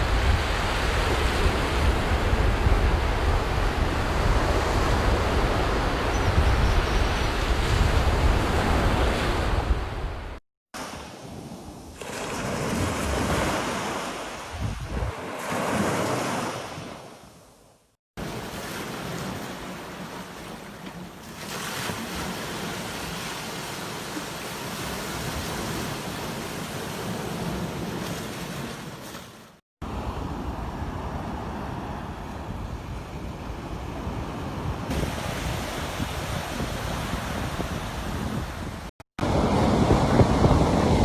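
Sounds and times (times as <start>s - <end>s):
waves breaking on a beach: 0.0s - 17.4s, 18.2s - 41.0s.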